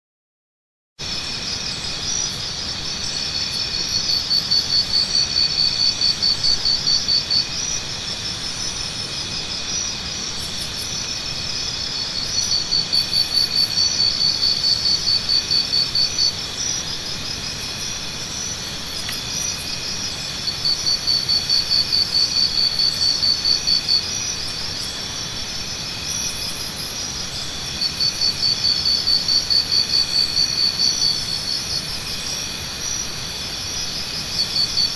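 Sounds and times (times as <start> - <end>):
chorus of trilling insects: 1.0 - 34.9
rapidly pulsing insect call: 1.0 - 34.9.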